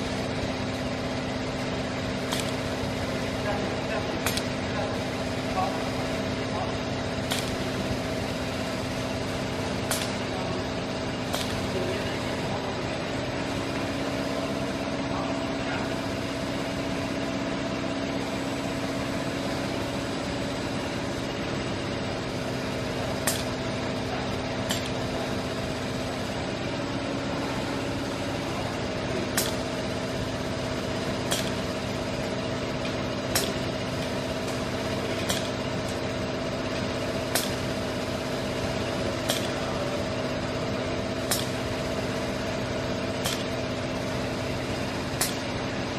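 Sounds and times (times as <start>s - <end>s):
machine hum with tones: 0.0s - 45.9s.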